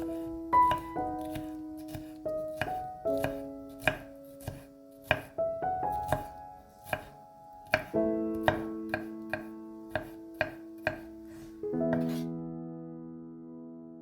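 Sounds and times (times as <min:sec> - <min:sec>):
knife chopping on cutting board: 0:00.0 - 0:11.2, 0:11.9 - 0:12.3
soft piano music: 0:00.0 - 0:14.0.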